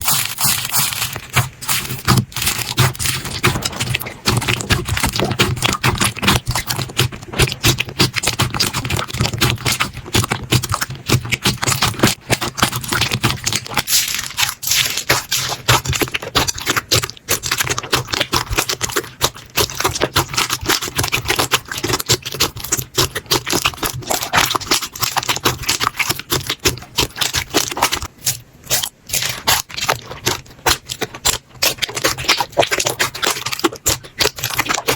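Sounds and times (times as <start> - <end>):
slime crackling and popping: 0.0 - 34.9.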